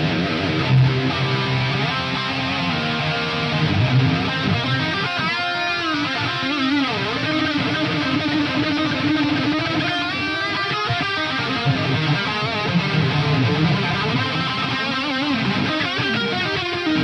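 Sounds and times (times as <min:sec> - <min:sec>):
rock electric guitar music: 0:00.0 - 0:17.0.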